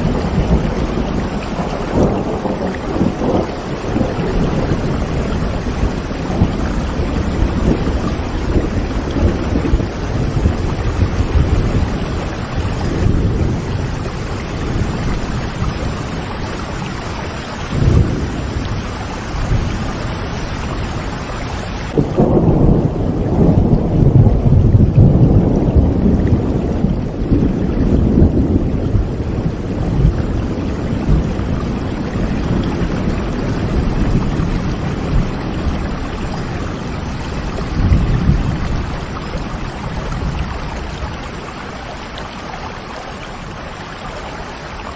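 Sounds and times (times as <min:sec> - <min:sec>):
steady rain: 0:00.0 - 0:44.9
thunder rumbling: 0:00.0 - 0:44.9.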